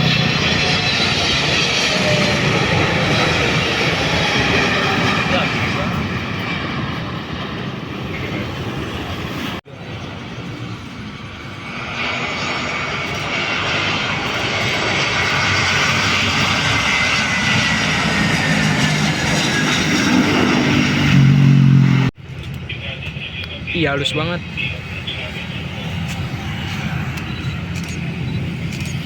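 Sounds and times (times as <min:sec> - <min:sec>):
jet engines passing: 0:00.0 - 0:29.0.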